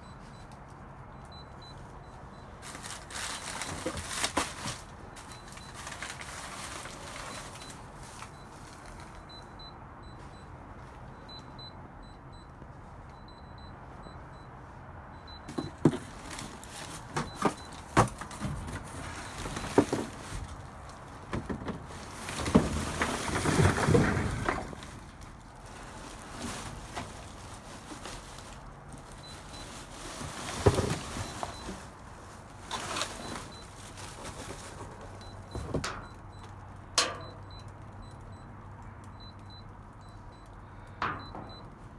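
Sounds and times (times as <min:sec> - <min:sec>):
rustling of things moved: 0:00.1 - 0:11.7, 0:15.2 - 0:38.2, 0:39.2 - 0:41.9.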